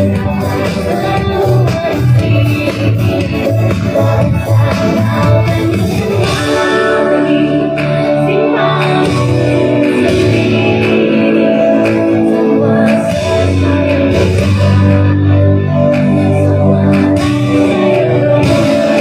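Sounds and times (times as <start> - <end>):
guitar: 0.0 - 19.0
person singing: 0.0 - 19.0.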